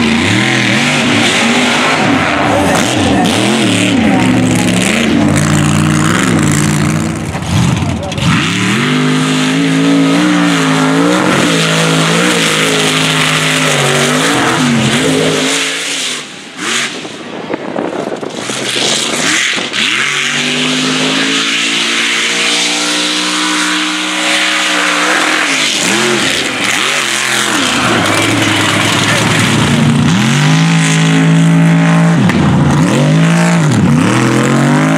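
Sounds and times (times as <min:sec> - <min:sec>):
truck engines revving: 0:00.0 - 0:34.9.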